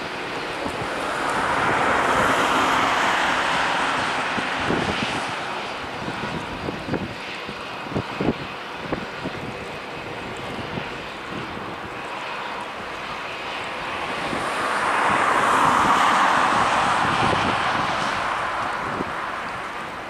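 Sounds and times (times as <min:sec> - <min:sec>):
airliner jet rush: 0:00.0 - 0:20.0.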